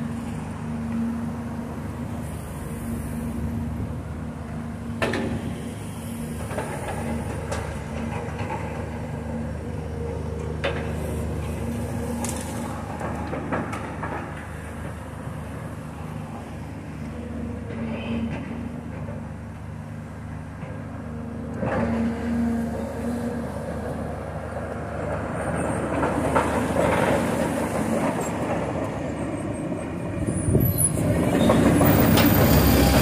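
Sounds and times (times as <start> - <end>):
diesel machinery engine hum: 0.0 - 33.0.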